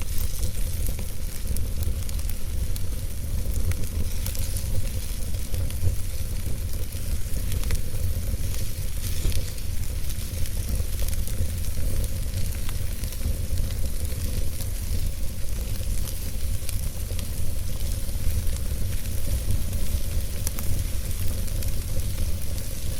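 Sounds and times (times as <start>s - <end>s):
logs crackling in fireplace: 0.0s - 22.9s.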